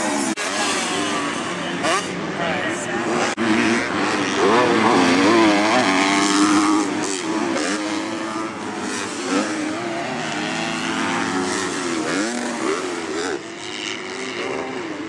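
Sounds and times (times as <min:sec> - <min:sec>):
motocross bikes racing past: 0:00.0 - 0:15.0.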